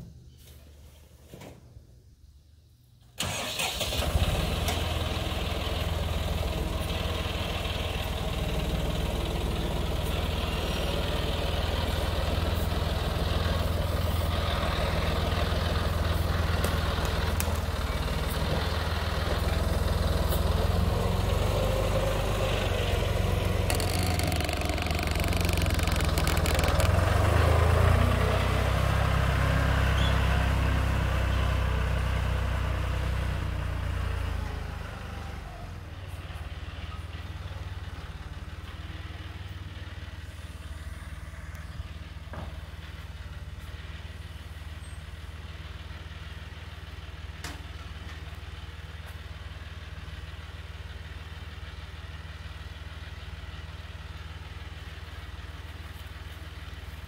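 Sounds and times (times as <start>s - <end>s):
tractor engine running: 3.0s - 57.0s.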